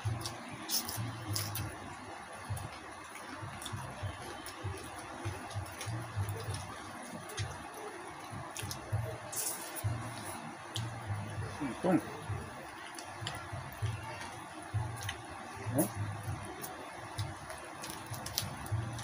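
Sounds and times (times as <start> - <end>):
wet chewing and lip smacks: 0.0 - 19.0.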